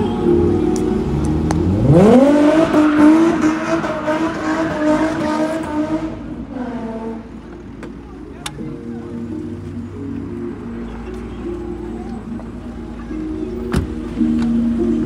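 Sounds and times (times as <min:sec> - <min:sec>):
car engine revving: 0:00.3 - 0:15.0.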